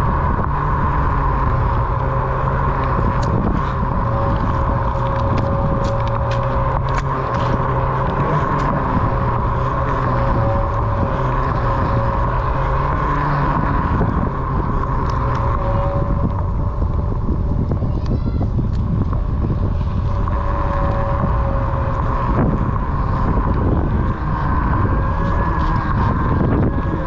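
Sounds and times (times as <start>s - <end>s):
electric motor whine: 0.0s - 27.0s
tyre and wind rush: 0.0s - 27.0s.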